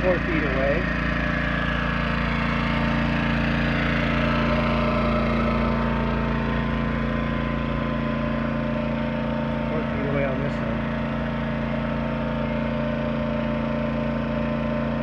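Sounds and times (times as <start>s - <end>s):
portable generator hum: 0.0s - 15.0s.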